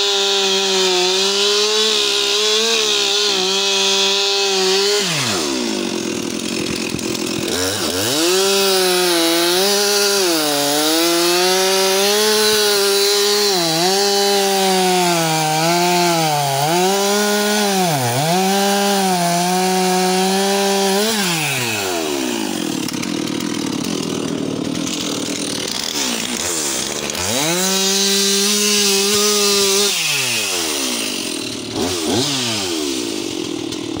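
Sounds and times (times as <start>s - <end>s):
chainsaw cutting logs: 0.0s - 34.0s.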